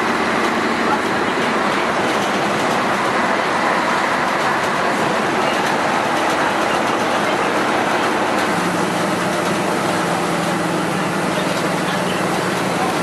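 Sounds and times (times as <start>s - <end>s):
bus body rattle: 0.0s - 13.0s
bus diesel engine running: 0.0s - 13.0s
road noise: 0.0s - 13.0s.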